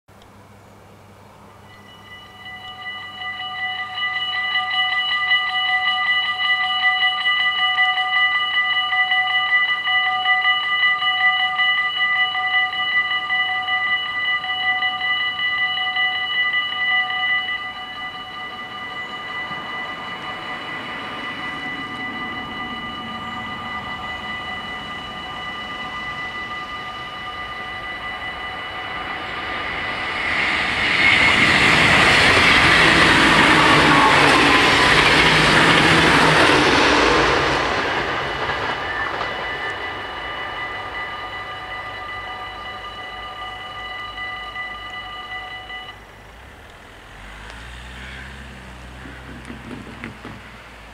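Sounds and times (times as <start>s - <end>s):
train wheels rushing on rail: 0.1s - 50.9s
level crossing warning bells ringing: 1.0s - 50.9s.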